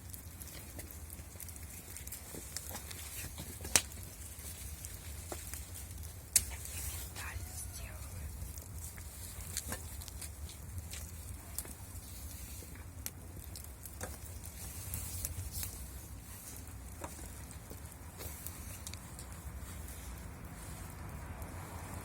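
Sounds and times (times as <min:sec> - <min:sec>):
sharp pops of fire: 0:00.0 - 0:06.8, 0:08.5 - 0:19.4
low steady fire rumble: 0:00.0 - 0:22.0
wood fire crackling: 0:00.0 - 0:22.0.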